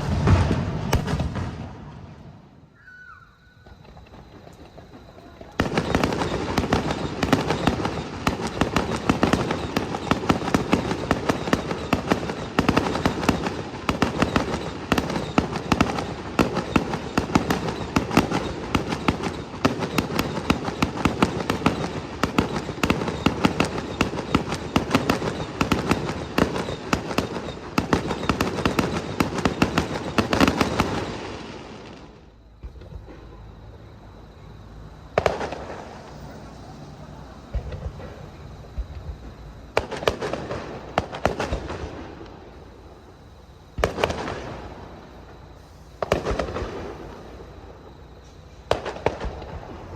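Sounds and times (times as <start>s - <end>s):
fireworks bursts and crackling: 0.0s - 2.8s, 3.6s - 49.9s.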